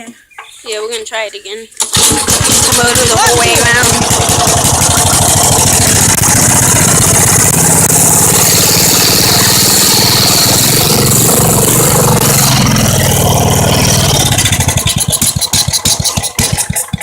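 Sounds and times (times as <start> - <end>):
small engine running and slowing: 1.9 - 17.0.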